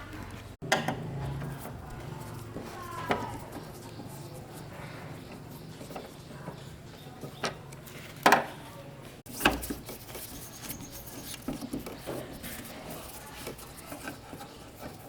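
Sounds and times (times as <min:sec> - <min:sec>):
objects being handled: 0:00.0 - 0:15.0.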